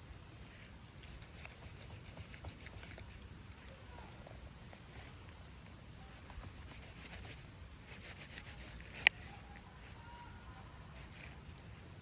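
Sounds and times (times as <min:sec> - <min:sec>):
faint clicks and ticks: 0:00.0 - 0:12.0.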